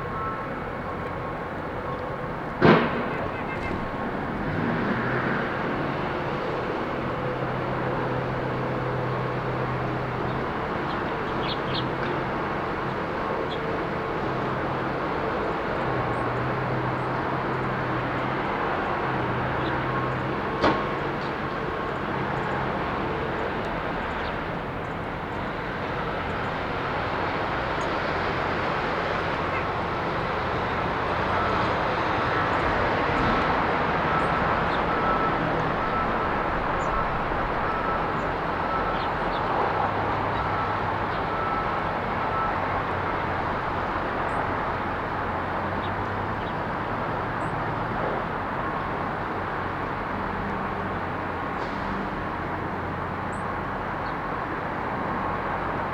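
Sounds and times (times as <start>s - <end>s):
road traffic rushing: 0.0s - 55.9s.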